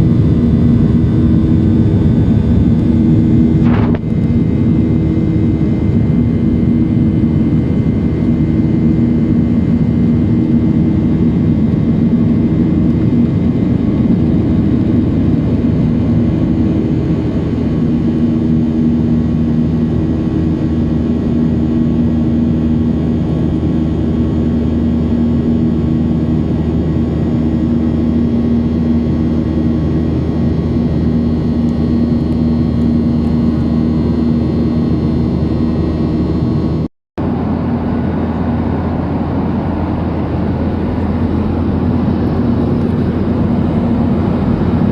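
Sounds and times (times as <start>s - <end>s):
jet engine cabin rush: 0.0s - 44.9s.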